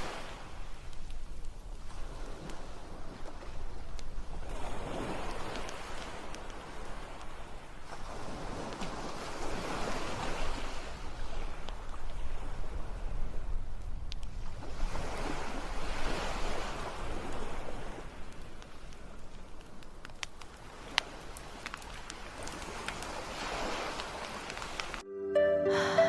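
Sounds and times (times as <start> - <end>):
campfire crackling pops: 0.0 - 12.4, 13.4 - 15.2, 16.4 - 25.0
ocean waves washing in: 0.0 - 19.6, 20.5 - 26.0.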